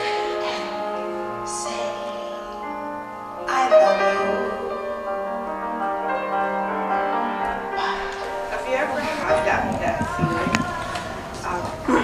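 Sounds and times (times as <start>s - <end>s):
sustained layered tones music: 0.0s - 12.0s.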